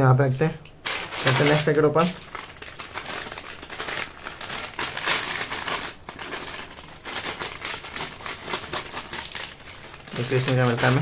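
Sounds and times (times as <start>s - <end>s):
snack packet crinkling: 0.8s - 11.0s.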